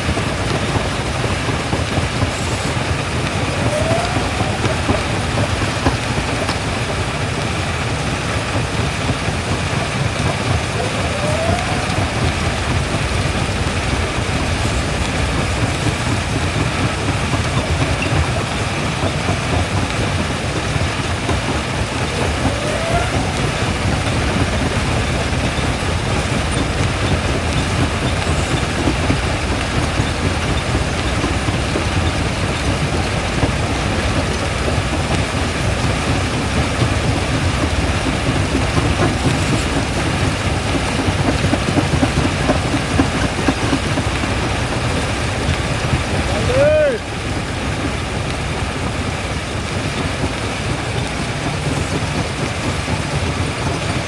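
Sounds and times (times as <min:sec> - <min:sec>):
jaw crusher rumbling and grinding: 0:00.0 - 0:54.0.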